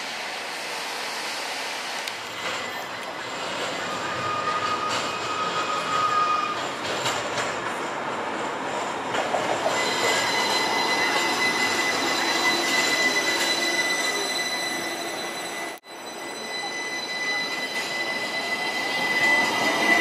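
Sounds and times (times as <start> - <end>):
steel wheels squealing on rails: 0.0 - 20.0
streetcar running past: 0.0 - 20.0.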